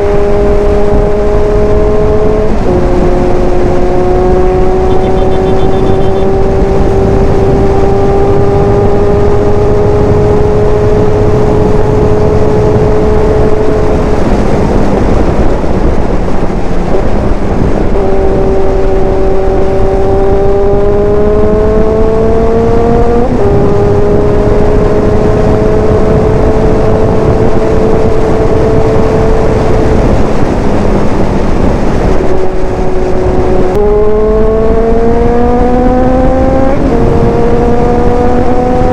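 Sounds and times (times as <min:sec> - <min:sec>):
motorcycle engine at speed: 0:00.0 - 0:38.9
wind rush on microphone: 0:00.0 - 0:38.9.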